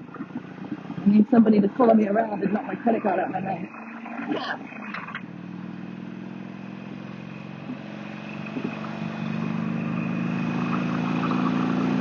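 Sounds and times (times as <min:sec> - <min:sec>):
motorcycle engine hum: 0:00.0 - 0:12.0.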